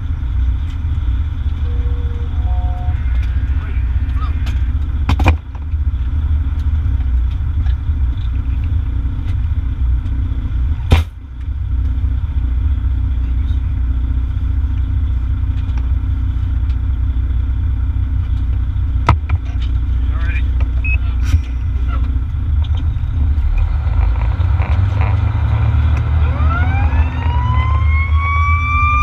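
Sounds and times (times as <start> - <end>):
diesel engine rumble while driving: 0.0 - 29.0.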